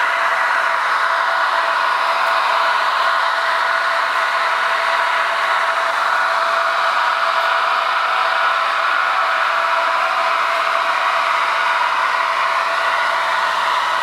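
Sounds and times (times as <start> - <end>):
model locomotive running sound: 0.0 - 14.0.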